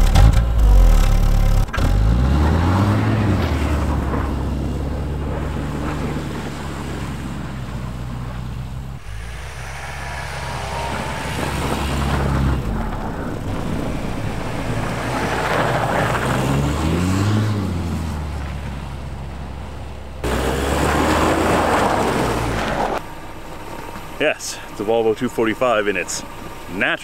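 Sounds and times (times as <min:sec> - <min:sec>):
car engine accelerating: 0:00.0 - 0:26.9
road noise: 0:00.0 - 0:27.0.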